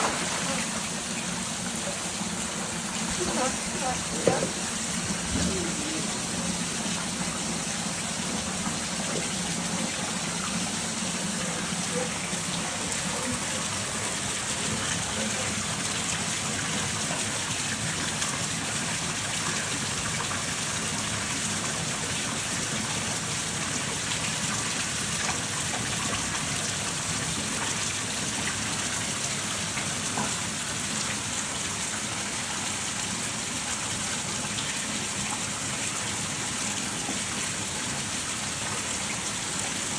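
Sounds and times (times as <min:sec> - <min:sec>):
hiss of running water: 0:00.0 - 0:39.9.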